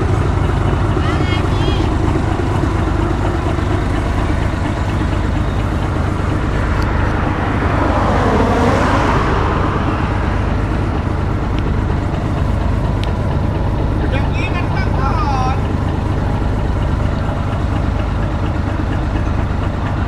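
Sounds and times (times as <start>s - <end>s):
bus engine rumbling: 0.0s - 20.0s
rush of noise: 0.0s - 20.0s.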